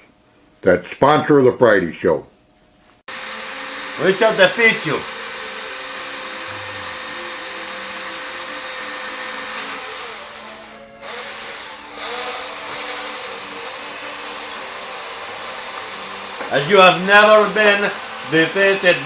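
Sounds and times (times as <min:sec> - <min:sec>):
background music: 0:03.1 - 0:19.0
power tool motor whirring: 0:03.1 - 0:19.0.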